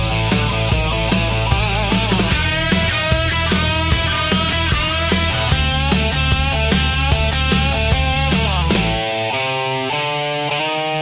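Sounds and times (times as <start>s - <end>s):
guitar notes ringing: 0.0s - 11.0s
instrumental rock music: 0.0s - 11.0s.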